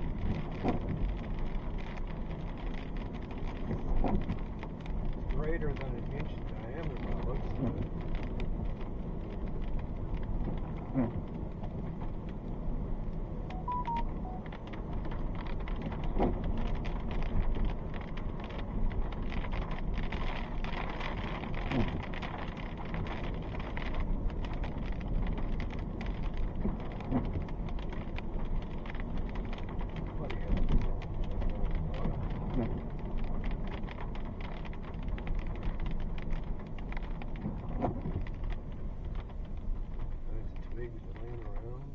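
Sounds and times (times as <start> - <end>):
windshield wiper sweeping: 0.0 - 5.0, 6.8 - 13.5, 14.5 - 40.2
rain pattering on car roof: 0.0 - 41.9
steady low rumble: 0.0 - 41.9.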